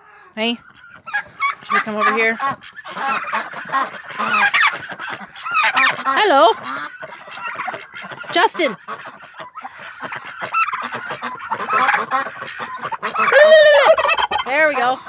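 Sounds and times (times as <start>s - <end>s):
poultry calling: 0.0s - 15.0s.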